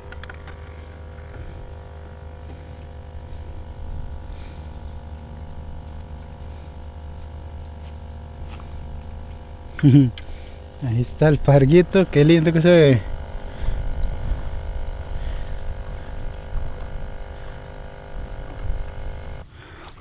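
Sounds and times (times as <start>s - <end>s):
high-pitched insect trilling: 0.0s - 19.4s
constant low hum: 0.0s - 19.7s.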